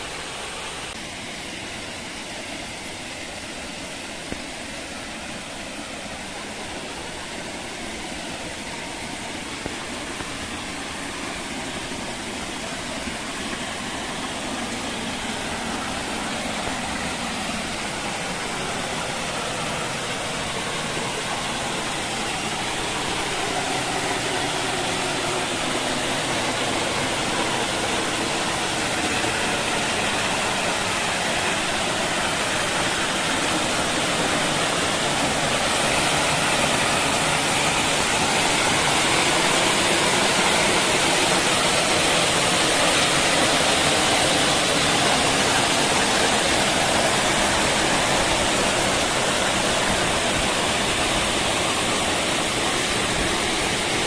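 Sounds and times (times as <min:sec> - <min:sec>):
waterfall splashing onto rocks: 0:00.0 - 0:54.0.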